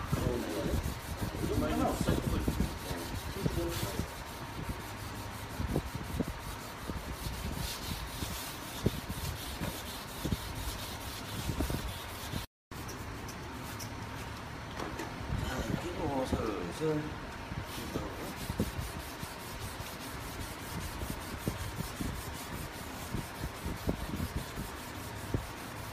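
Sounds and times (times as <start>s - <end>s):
sanding block rasping: 0.1s - 13.0s, 17.8s - 25.9s.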